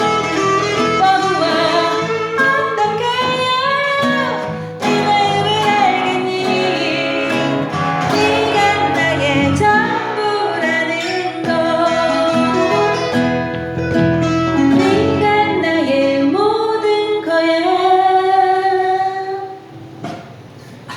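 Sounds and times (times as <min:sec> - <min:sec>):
acoustic guitar strummed: 0:00.0 - 0:19.0
woman singing a ballad: 0:00.1 - 0:13.5, 0:14.6 - 0:19.6.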